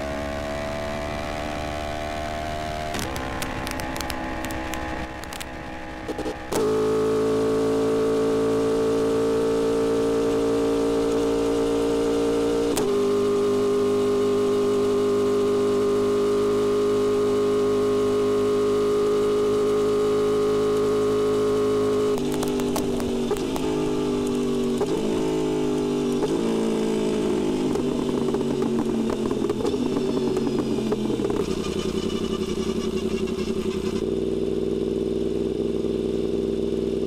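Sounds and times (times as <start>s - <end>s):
motorcycle engine at high revs: 0.0s - 37.0s.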